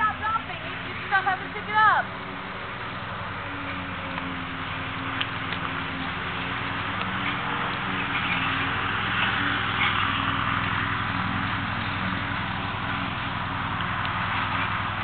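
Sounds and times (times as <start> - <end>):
pulsing motor hum: 0.0 - 15.0.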